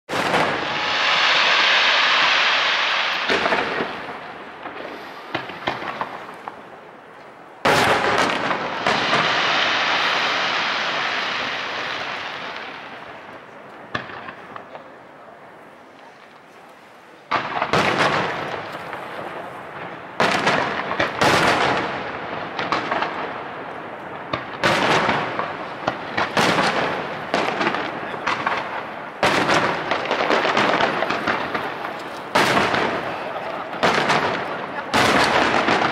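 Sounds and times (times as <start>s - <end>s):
firework bangs: 0.1s - 16.0s, 17.3s - 35.9s
fireworks crackling: 0.1s - 35.9s.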